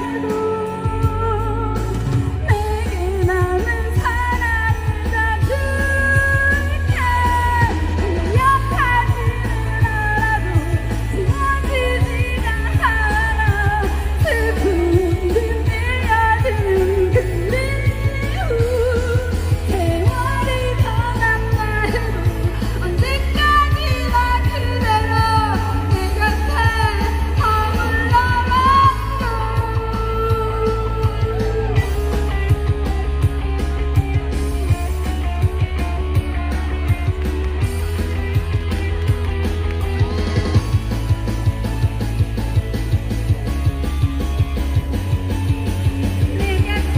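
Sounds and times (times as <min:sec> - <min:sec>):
backing track with heavy bass: 0:00.0 - 0:46.9
person singing pop song: 0:00.0 - 0:46.9.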